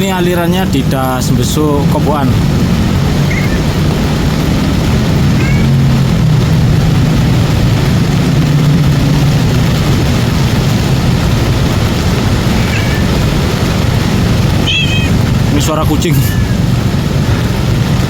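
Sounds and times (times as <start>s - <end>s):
flood water low rumble: 0.0s - 18.0s.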